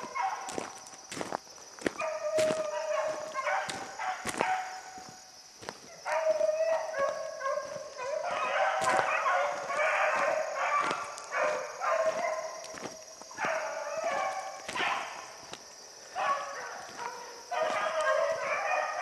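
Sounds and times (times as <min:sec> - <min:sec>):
hounds baying: 0:00.0 - 0:00.8, 0:01.8 - 0:19.0.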